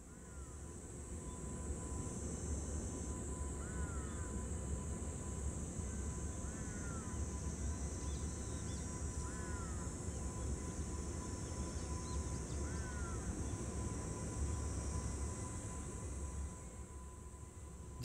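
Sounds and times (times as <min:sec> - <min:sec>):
electric locomotive moving slowly: 0:00.0 - 0:18.0.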